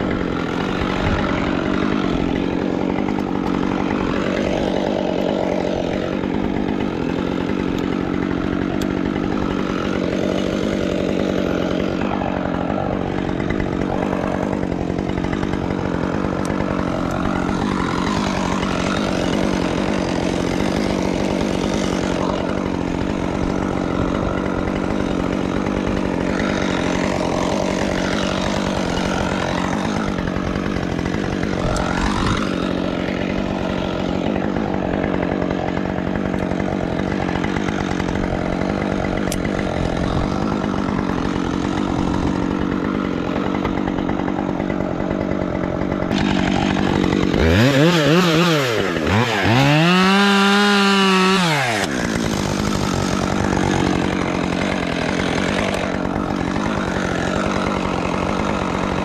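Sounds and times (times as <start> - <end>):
two-stroke chainsaw running: 0.0 - 59.0.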